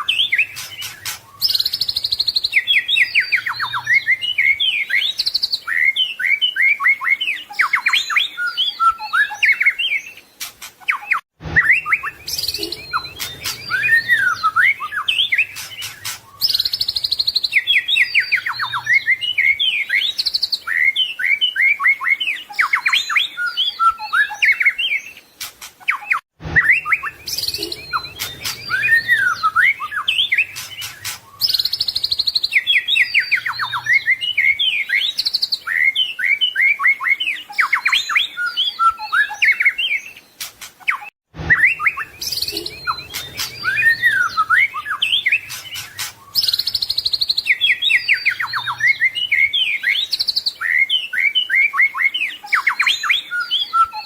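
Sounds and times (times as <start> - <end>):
bird singing whistled trills: 0.0 - 25.2, 25.8 - 54.0.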